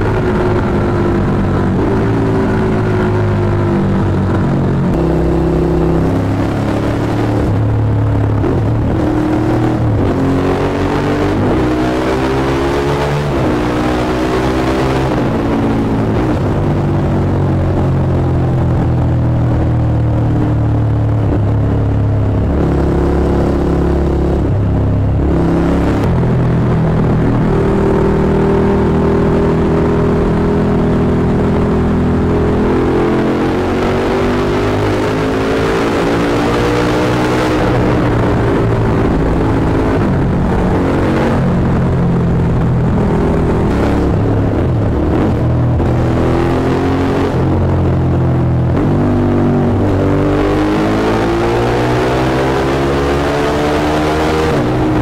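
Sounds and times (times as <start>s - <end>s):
motorcycles accelerating in tunnel: 0.0s - 55.0s.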